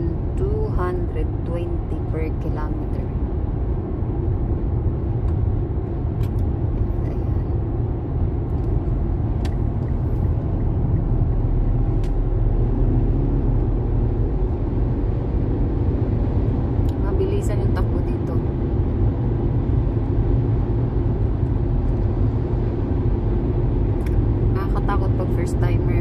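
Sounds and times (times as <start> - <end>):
car engine hum: 0.0 - 26.0
road and tyre noise: 0.0 - 26.0.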